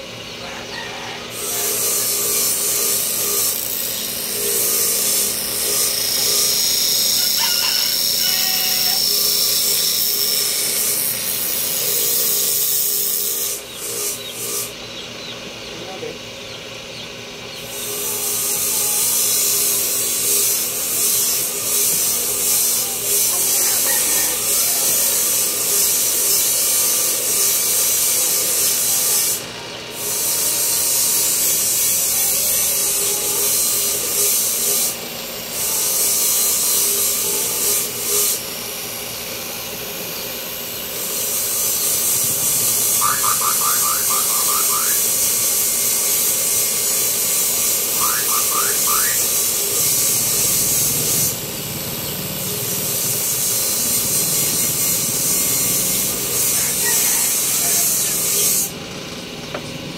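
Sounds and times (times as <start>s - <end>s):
power tool grinding: 1.2s - 59.9s.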